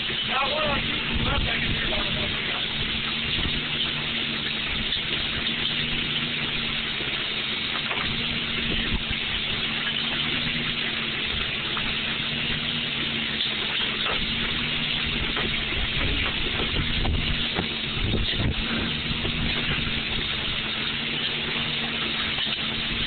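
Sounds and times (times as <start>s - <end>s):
machinery hum with hiss: 0.0s - 23.0s.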